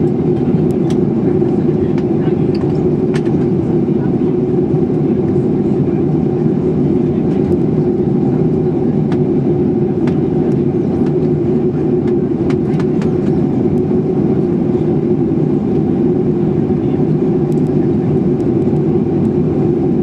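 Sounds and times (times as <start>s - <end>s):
jet engines and airflow rushing: 0.0s - 20.0s
steady low hum: 0.0s - 20.0s.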